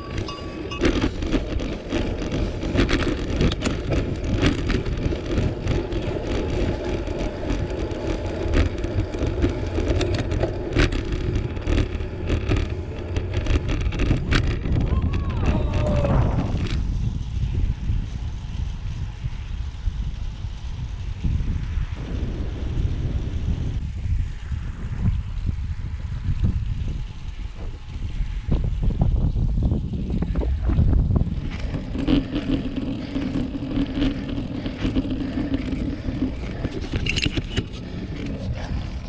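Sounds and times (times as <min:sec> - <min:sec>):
bicycle clicks and knocks: 0:00.0 - 0:22.0, 0:26.2 - 0:39.0
low road rumble: 0:00.0 - 0:39.0
wind buffeting microphone: 0:00.0 - 0:39.0.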